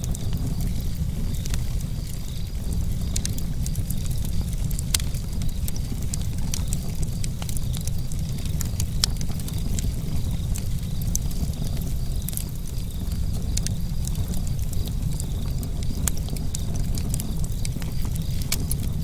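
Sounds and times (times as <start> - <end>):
campfire popping and snapping: 0.0 - 19.0
low rumble of burning fire: 0.0 - 19.0.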